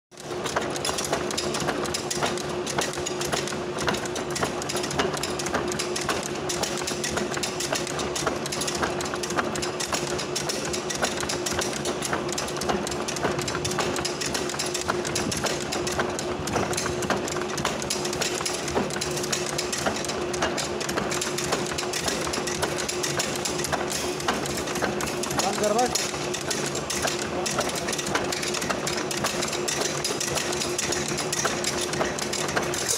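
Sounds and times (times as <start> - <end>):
rattle of metal clicks: 0.2 - 32.9.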